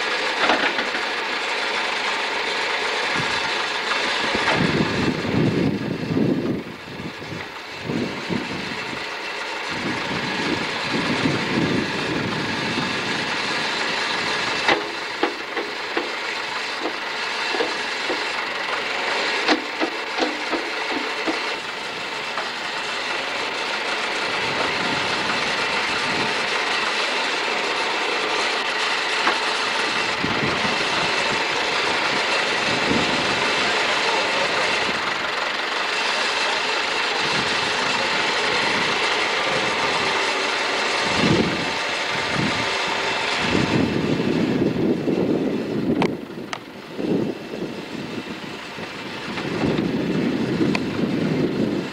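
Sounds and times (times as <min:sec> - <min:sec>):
backhoe engine running: 0:00.0 - 0:51.9.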